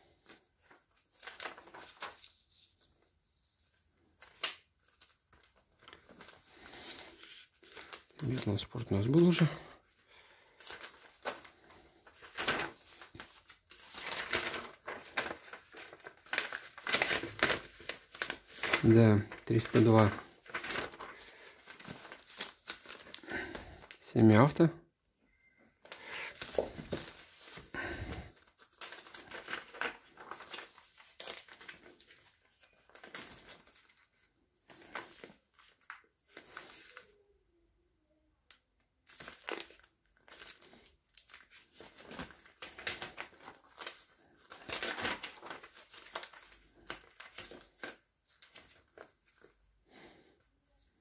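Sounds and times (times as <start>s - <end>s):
paper sheets rustling: 0.2s - 24.4s, 25.8s - 37.1s, 39.1s - 49.6s.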